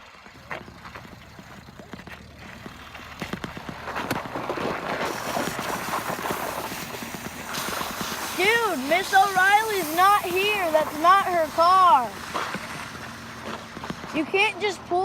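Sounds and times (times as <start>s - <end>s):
tyre noise on road: 0.0s - 15.0s
wind: 0.0s - 15.0s
bicycle clattering rattles: 0.3s - 14.3s.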